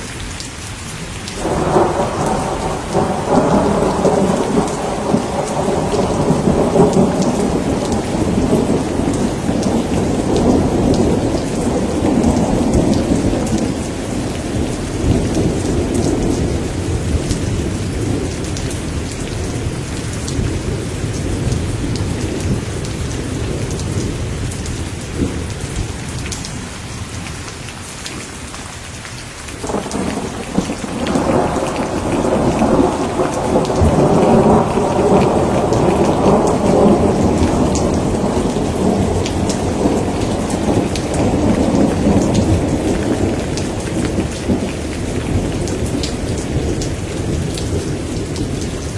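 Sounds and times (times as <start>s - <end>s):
heavy rain: 0.0s - 48.9s
rolling thunder: 1.3s - 26.4s, 29.6s - 48.9s.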